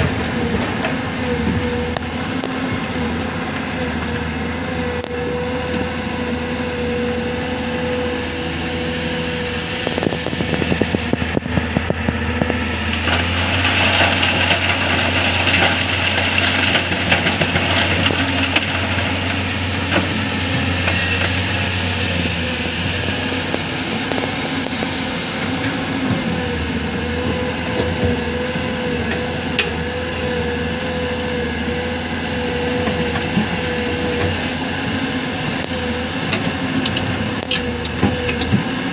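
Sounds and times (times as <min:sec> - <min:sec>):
excavator engine and hydraulics: 0:00.0 - 0:38.9.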